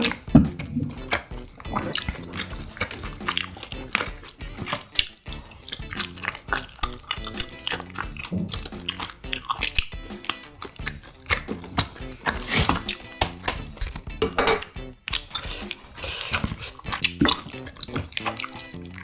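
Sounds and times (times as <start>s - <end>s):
chewing and wet mouth sounds: 0.0s - 19.0s.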